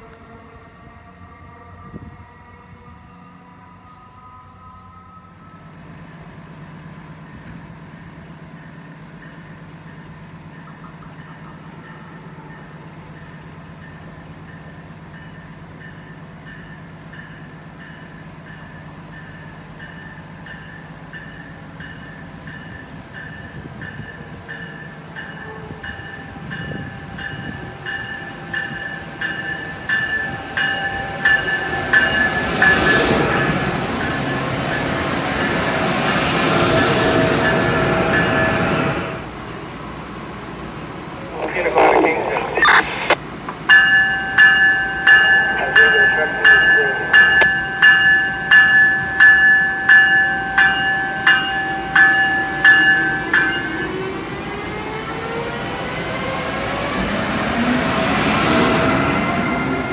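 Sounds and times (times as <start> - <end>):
electric train approaching: 0.0 - 59.9.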